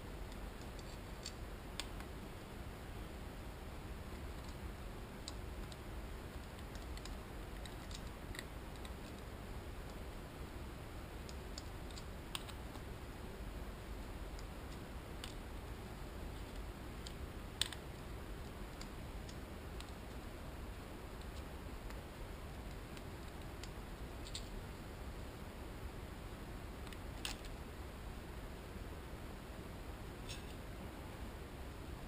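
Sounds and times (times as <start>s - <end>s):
low steady background noise: 0.0s - 32.0s.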